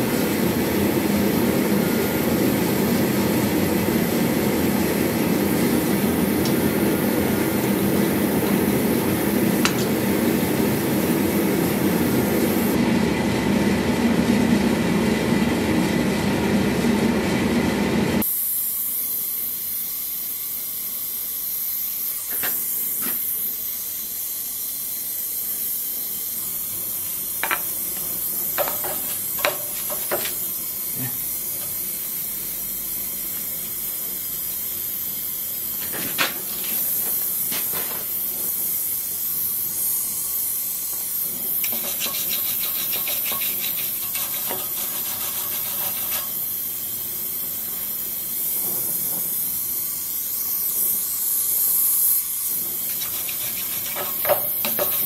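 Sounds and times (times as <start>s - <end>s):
small torch flame hissing: 0.0s - 12.8s, 18.2s - 55.0s
gas torch flame roaring: 0.0s - 55.0s.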